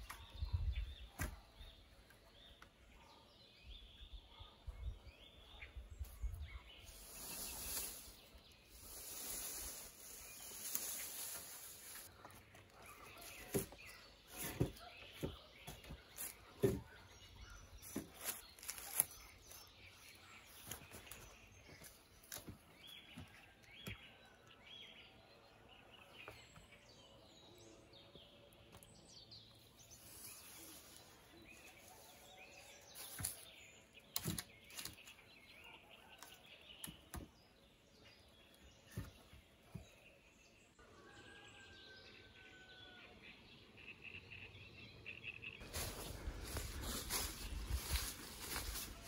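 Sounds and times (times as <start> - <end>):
birds chirping faintly: 0.0 - 41.6, 42.2 - 49.0.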